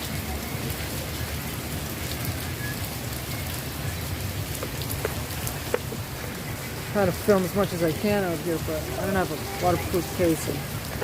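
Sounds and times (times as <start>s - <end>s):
raindrops ticking close by: 0.0s - 11.0s
steady rain falling: 0.0s - 11.0s.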